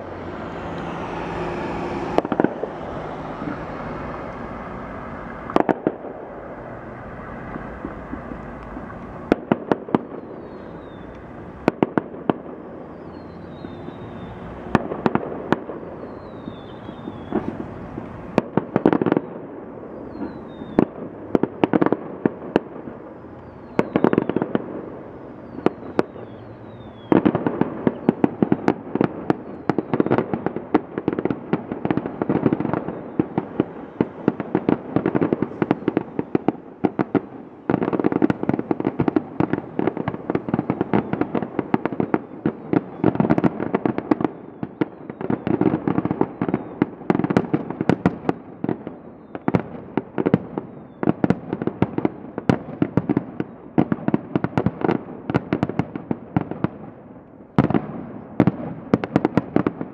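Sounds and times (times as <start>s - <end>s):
fireworks falling whistles: 0.0s - 55.8s
fireworks popping and banging: 0.0s - 59.9s.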